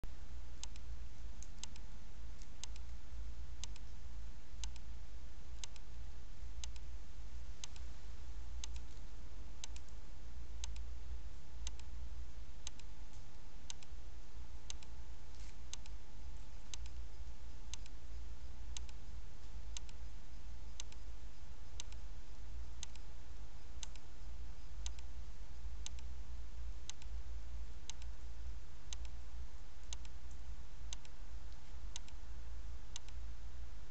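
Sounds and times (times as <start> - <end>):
steady low hum: 0.0 - 33.9
sharp clock-like ticks: 0.5 - 6.0, 6.6 - 7.0, 7.6 - 8.0, 8.6 - 14.0, 14.6 - 15.0, 15.6 - 33.3.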